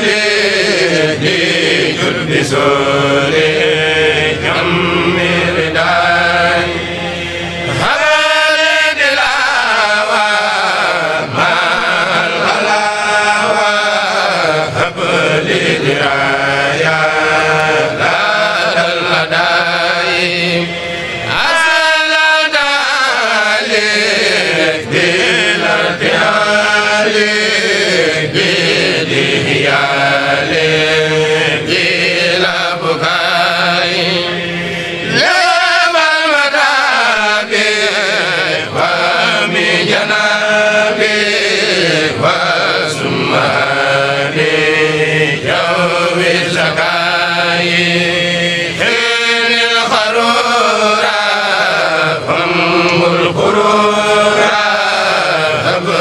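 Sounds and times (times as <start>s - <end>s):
group chanting: 0.0s - 56.0s.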